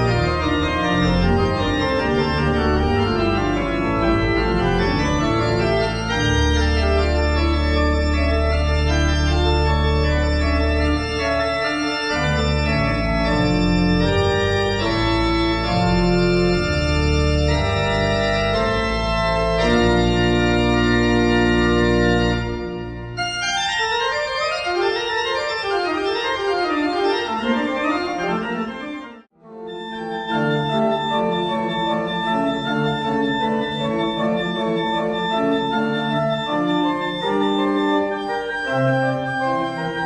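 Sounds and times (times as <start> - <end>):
organ playing chords: 0.0 - 40.0.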